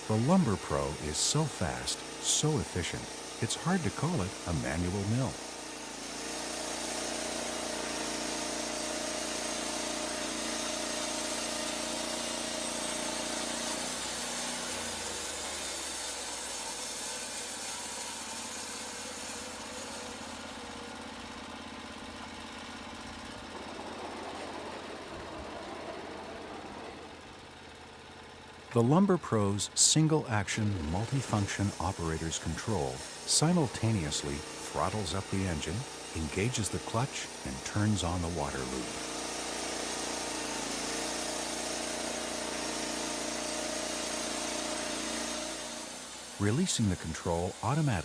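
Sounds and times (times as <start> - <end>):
saw blade cutting log: 0.0 - 27.4, 30.1 - 48.0
sawmill engine running: 0.0 - 48.0.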